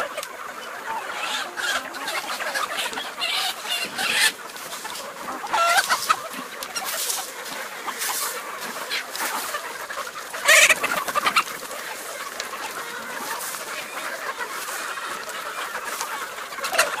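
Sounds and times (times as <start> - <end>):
chickens clucking: 0.0 - 17.0
chickens squawking: 0.0 - 17.0.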